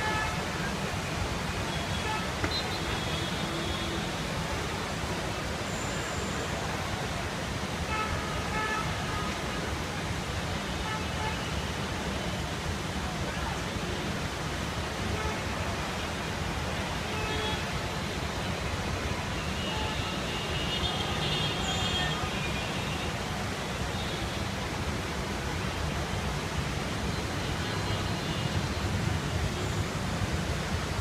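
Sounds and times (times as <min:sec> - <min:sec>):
heavy rain: 0:00.0 - 0:31.0.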